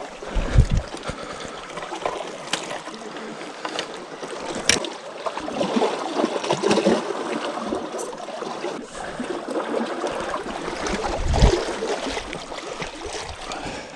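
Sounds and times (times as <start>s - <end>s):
water splashing at shoreline: 0.0s - 13.9s.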